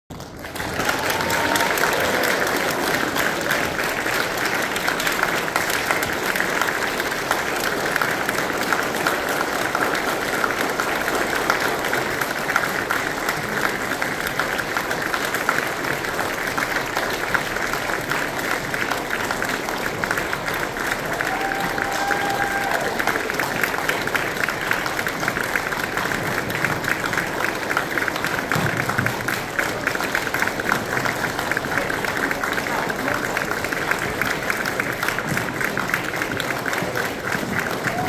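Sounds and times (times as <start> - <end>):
crowd applauding: 0.1 - 38.0.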